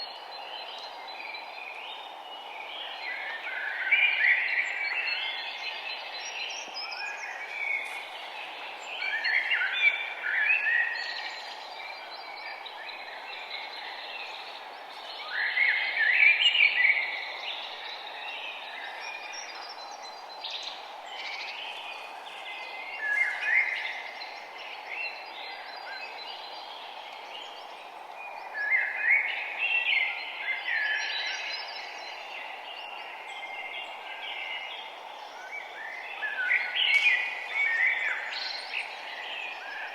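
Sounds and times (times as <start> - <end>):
songbirds singing: 0.0 - 39.9
steady background hiss: 0.0 - 39.9.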